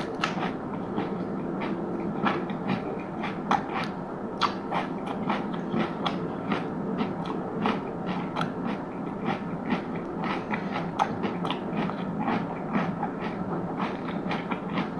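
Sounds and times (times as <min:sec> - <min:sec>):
chewing crunchy food: 0:00.0 - 0:14.9.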